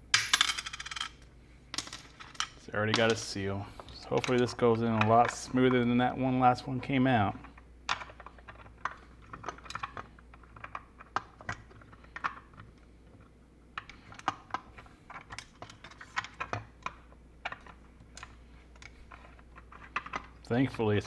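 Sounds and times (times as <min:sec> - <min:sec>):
small parts clicking and tapping: 0:00.2 - 0:05.9, 0:06.8 - 0:21.0.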